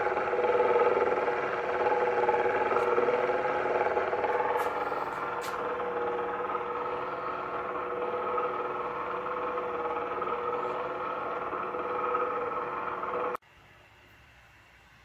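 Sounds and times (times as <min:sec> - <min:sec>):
gear motor whirring: 0:00.0 - 0:13.4.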